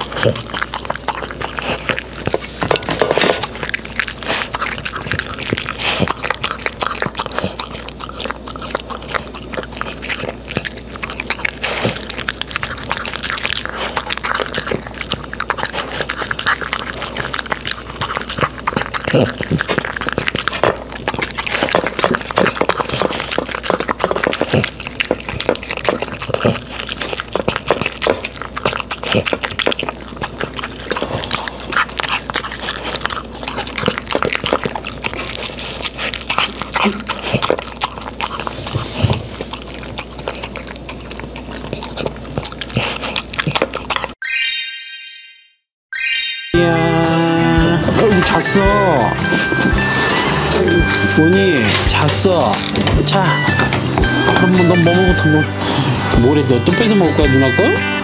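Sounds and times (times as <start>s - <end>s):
dog licking from metal tray: 0.0s - 44.2s, 48.0s - 54.7s.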